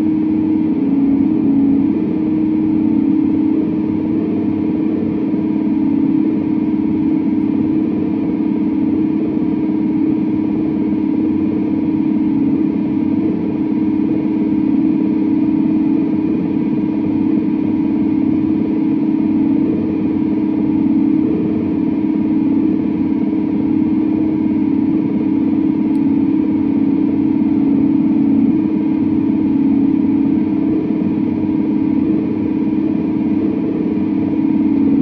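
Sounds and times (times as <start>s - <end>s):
electric guitar noisy drone: 0.0s - 35.0s.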